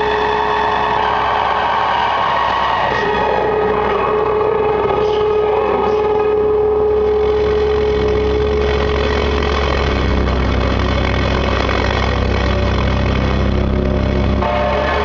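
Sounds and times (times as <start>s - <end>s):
diesel engine running: 0.0s - 15.0s
high whine: 0.0s - 15.0s.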